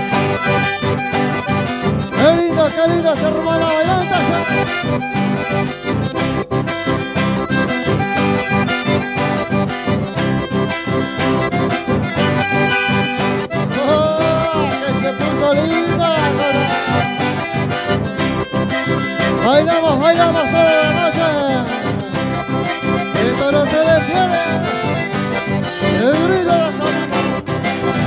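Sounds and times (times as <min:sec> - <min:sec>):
accordion-led latin dance music: 0:00.0 - 0:28.0.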